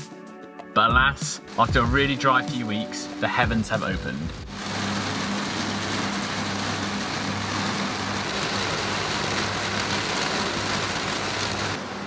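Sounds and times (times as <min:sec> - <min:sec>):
heavy rain on boat deck: 0:01.5 - 0:12.0.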